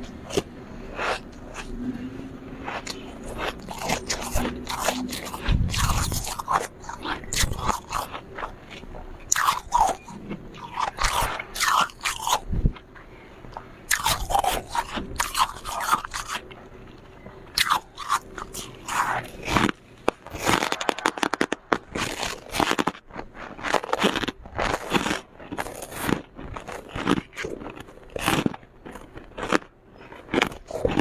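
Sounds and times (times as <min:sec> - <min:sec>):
frost being chewed crunching: 0:00.0 - 0:31.0.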